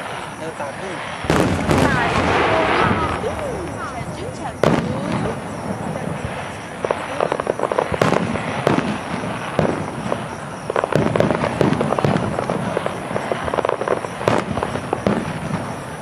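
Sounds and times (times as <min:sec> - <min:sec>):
fireworks bursting and crackling: 0:00.0 - 0:16.0
sharp firework bangs: 0:00.0 - 0:16.0.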